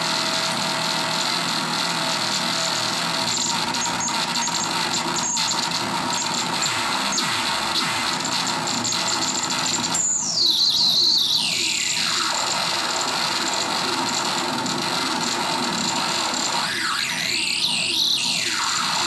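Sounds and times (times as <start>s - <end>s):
harsh glitchy synth noise: 0.0s - 19.0s.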